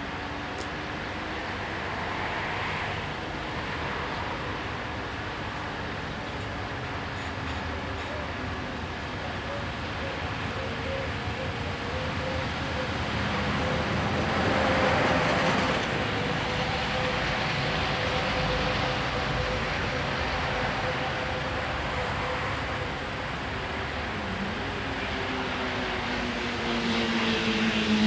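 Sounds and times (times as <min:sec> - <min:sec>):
broad rush of noise: 0:00.0 - 0:28.0
road noise: 0:00.0 - 0:28.0.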